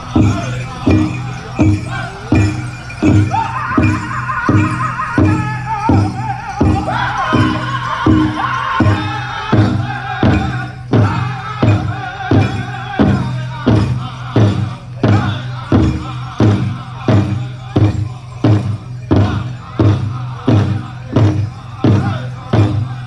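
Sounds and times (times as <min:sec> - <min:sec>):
big drum steady beat: 0:00.0 - 0:23.0
group singing in high voices: 0:00.0 - 0:23.0.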